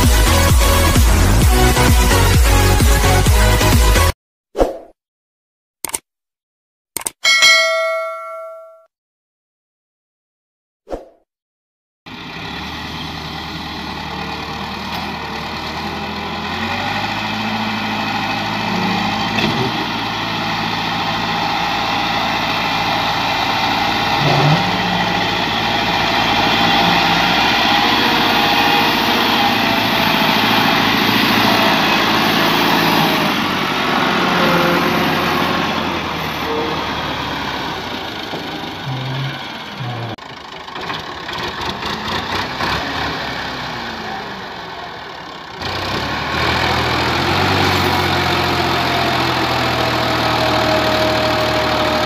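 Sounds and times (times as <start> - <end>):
tractor diesel engines: 0.0 - 4.1, 12.1 - 52.0.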